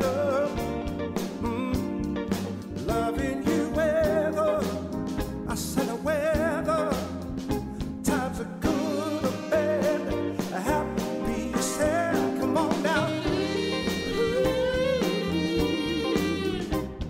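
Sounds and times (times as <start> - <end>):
soul singer with vibrato: 0.0 - 2.1, 2.7 - 7.2, 8.0 - 16.8
band backing with bass: 0.0 - 17.0.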